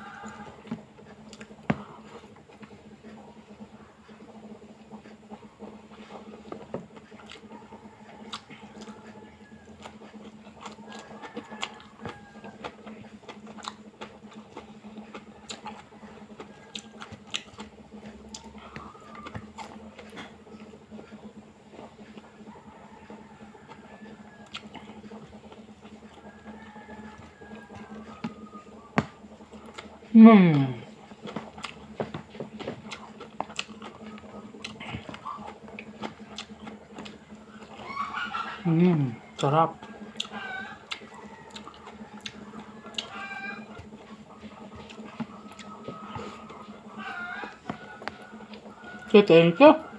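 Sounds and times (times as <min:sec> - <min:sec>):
person chewing with open mouth: 0:00.0 - 0:49.1
steady low hum: 0:00.0 - 0:49.9.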